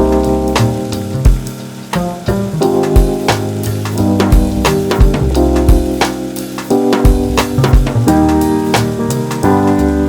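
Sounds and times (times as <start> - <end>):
bass line: 0.0 - 10.0
held keyboard chords: 0.0 - 10.0
steady drum beat: 0.0 - 10.0.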